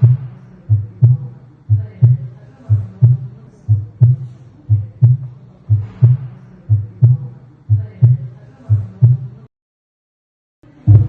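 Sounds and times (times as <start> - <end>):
heartbeat through stethoscope: 0.0 - 9.4.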